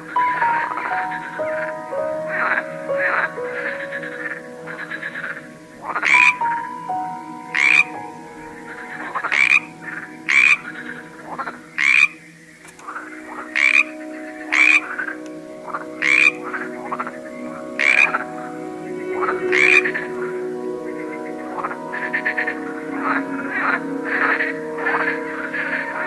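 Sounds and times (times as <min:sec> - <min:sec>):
frog croaking: 0:00.0 - 0:26.0.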